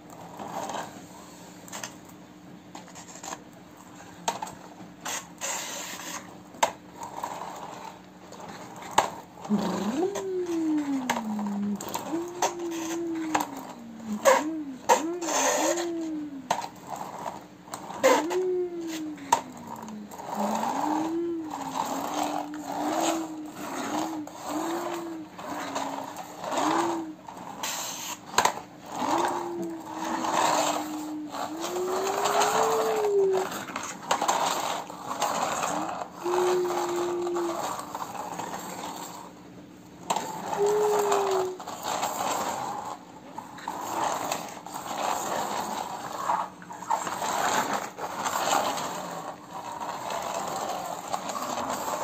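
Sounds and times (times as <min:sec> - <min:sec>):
plastic toy truck rattling: 0:04.2 - 0:39.3, 0:40.1 - 0:52.0.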